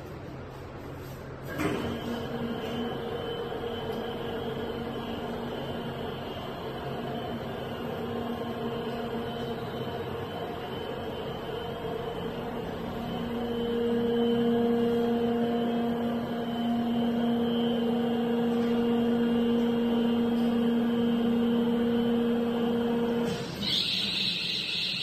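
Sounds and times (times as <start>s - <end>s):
hydraulic lift motor humming: 1.5s - 25.0s.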